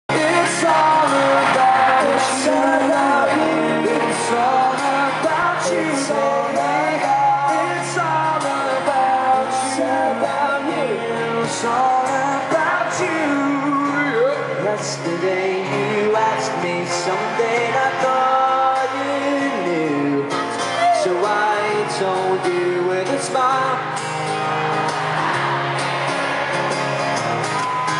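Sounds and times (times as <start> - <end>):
person singing: 0.1 - 24.0
live pop-rock band playing: 0.1 - 27.9.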